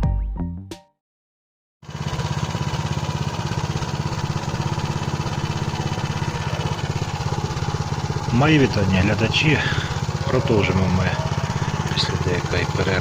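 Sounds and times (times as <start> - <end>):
tractor engine putter: 1.9 - 13.0.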